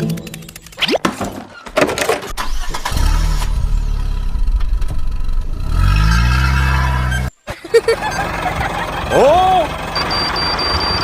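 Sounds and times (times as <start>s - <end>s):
engine starting and running: 0.0s - 11.0s.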